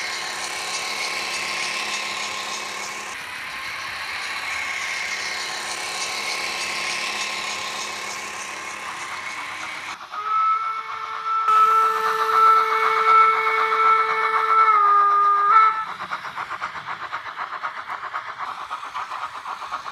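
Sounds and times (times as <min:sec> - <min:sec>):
wheels rolling on rails: 0:00.0 - 0:19.9.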